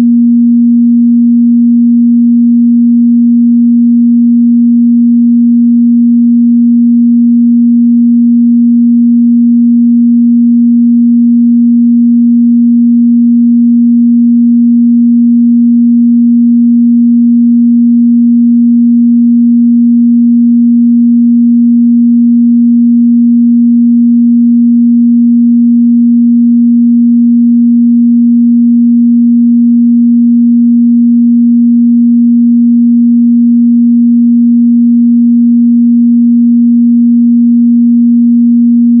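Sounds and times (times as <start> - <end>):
sine-wave test tone: 0.0 - 39.0.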